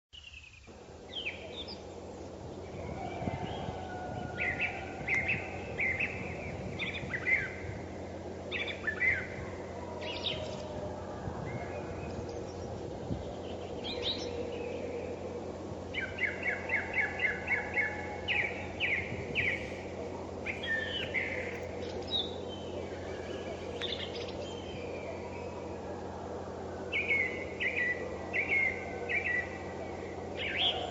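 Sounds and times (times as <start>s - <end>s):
low background hiss: 0.2s - 30.9s
songbirds singing and calling: 0.2s - 30.9s.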